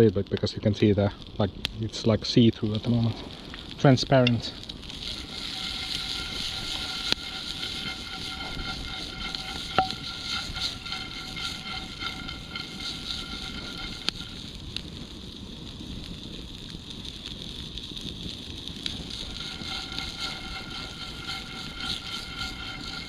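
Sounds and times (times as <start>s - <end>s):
cooking fire hissing: 0.0s - 23.0s
fire crackles: 0.0s - 23.0s.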